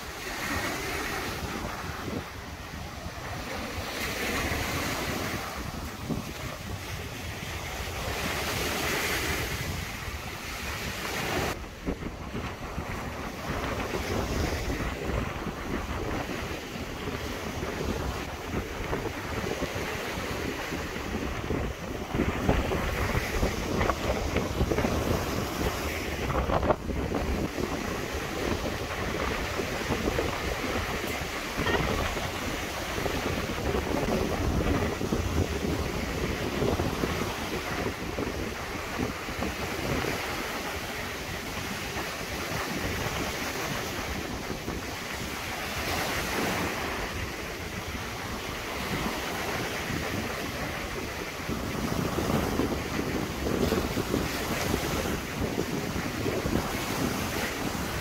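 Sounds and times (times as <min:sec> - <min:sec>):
small waves breaking on shore: 0:00.0 - 0:58.0
wind buffeting microphone: 0:00.0 - 0:58.0.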